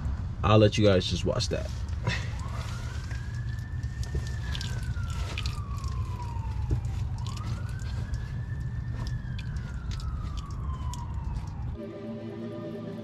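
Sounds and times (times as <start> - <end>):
emergency siren wailing: 2.0 - 13.0.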